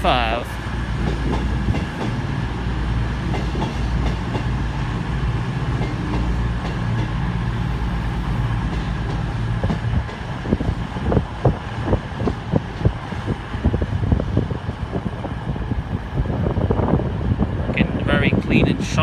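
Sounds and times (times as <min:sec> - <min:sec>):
diesel train engine droning: 0:00.0 - 0:19.0.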